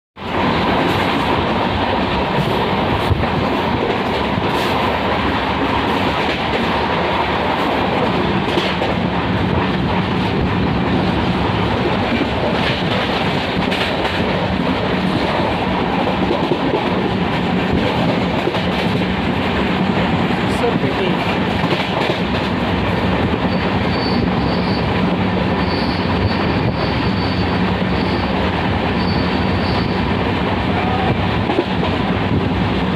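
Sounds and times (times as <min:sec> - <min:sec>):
train wheels rumbling on rails: 0:00.2 - 0:32.9.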